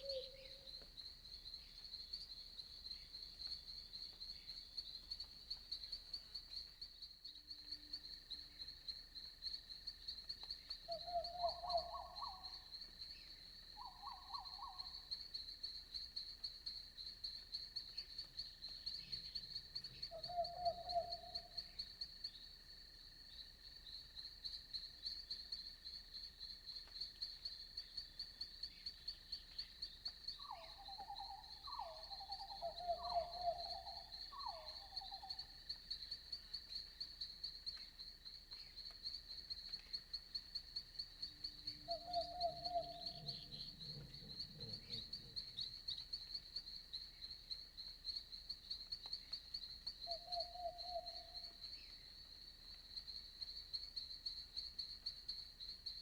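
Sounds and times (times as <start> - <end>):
night insects chirping: 0.0 - 56.0.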